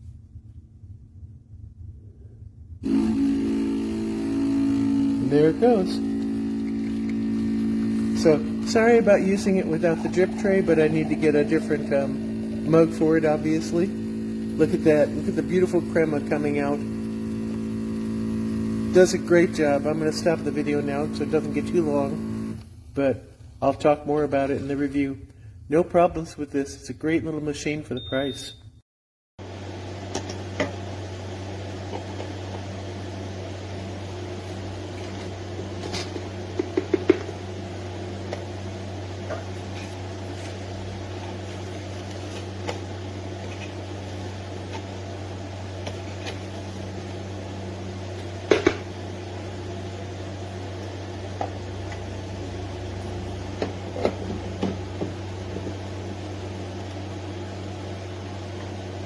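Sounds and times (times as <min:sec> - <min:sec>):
espresso machine humming: 0:02.8 - 0:22.9, 0:29.4 - 0:59.0.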